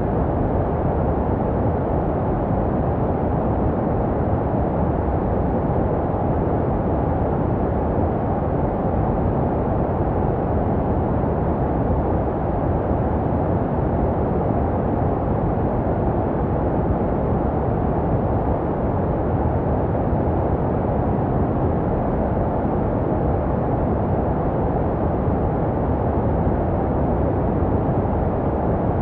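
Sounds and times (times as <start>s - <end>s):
deep muffled white noise: 0.0s - 29.0s.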